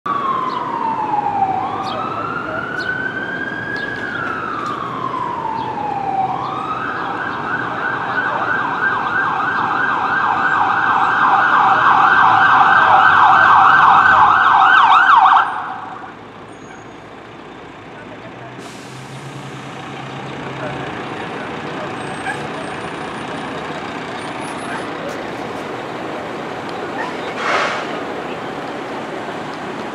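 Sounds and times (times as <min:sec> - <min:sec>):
fire engine siren wailing and yelping: 0:00.1 - 0:17.4, 0:18.0 - 0:28.7
truck engine: 0:00.1 - 0:29.9.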